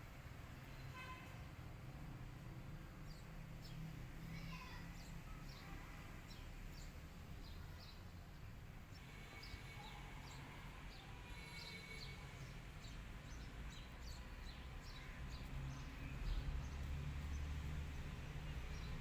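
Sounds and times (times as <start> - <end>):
small birds chirping: 3.0 - 19.0.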